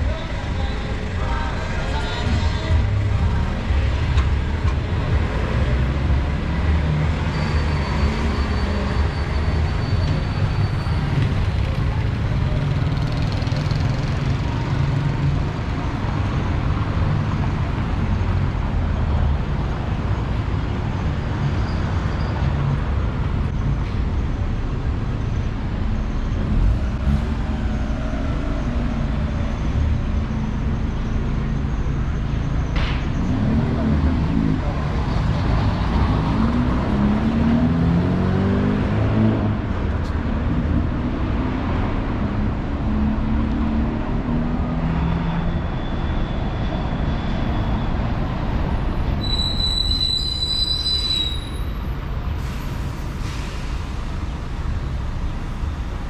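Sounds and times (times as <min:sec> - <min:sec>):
rumble of passing cars and buses: 0:00.0 - 0:56.0.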